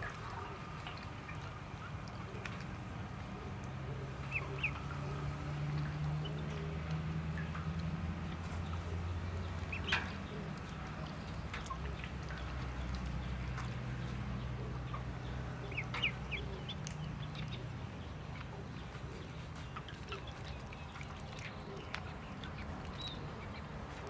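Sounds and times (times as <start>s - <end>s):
ducklings peeping: 0.0s - 24.0s
ducklings splashing in water: 0.0s - 24.0s.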